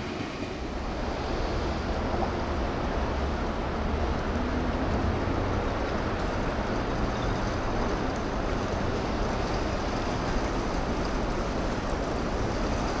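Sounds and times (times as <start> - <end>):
train wheels rushing on rail: 0.0 - 13.0.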